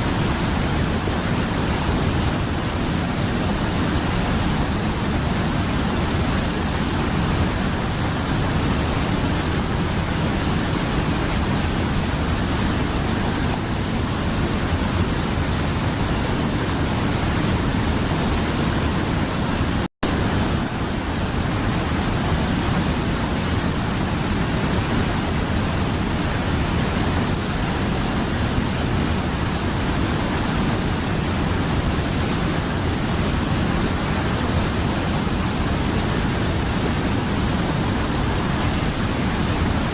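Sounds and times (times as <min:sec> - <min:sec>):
mountain river rushing: 0:00.0 - 0:39.9.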